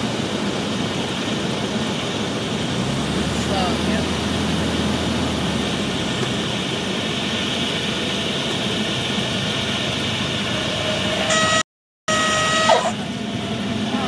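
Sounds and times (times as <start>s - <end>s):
propeller airplane engine: 0.0s - 14.0s.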